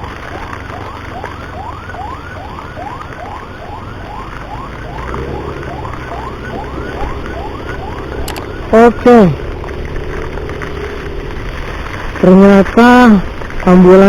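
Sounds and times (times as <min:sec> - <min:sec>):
emergency siren yelping: 0:00.0 - 0:12.3
motorcycle engine and wind rumble: 0:00.0 - 0:14.0.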